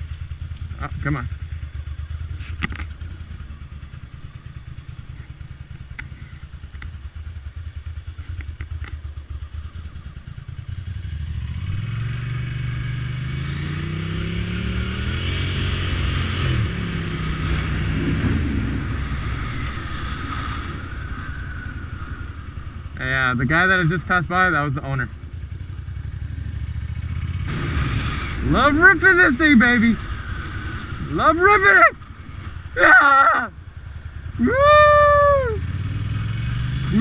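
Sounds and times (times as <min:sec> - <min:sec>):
motorcycle engine idling and revving: 0:00.0 - 0:37.0.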